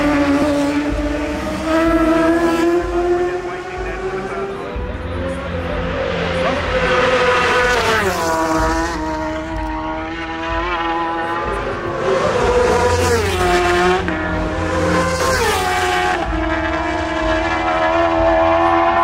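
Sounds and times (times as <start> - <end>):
motorcycles passing at high revs: 0.0 - 4.8, 6.4 - 19.0.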